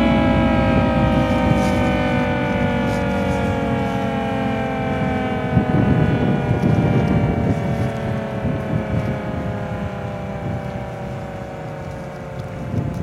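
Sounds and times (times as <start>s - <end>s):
dual-tone siren winding down: 0.0s - 13.0s
gusty low rumble: 0.0s - 13.0s.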